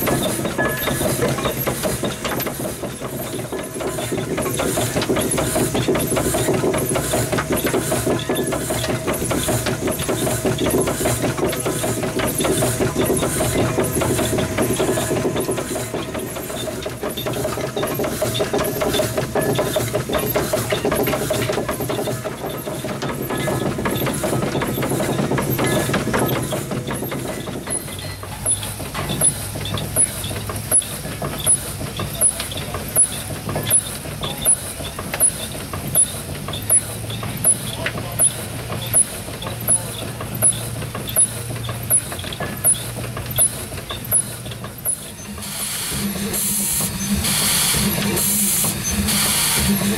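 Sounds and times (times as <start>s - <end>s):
crank and valve gear clatter: 0.0s - 49.9s
steam engine running: 0.0s - 49.9s.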